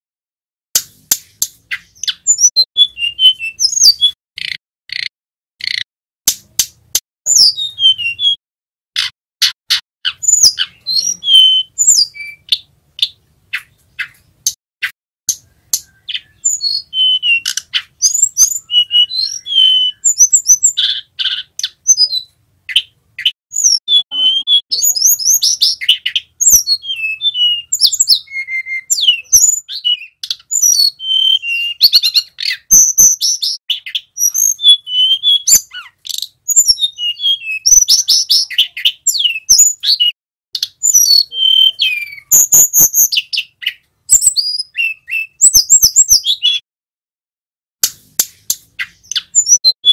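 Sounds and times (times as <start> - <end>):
bird whistled phrases with trills: 1.7 - 5.8, 7.3 - 8.4, 9.0 - 46.6, 48.8 - 49.9.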